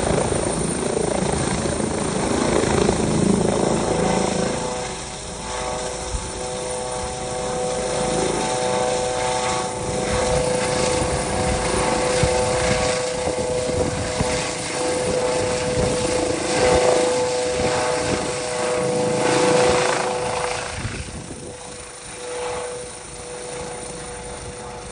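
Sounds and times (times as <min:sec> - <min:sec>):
helicopter rotor noise: 0:00.0 - 0:24.9
turbine whine: 0:00.0 - 0:24.9.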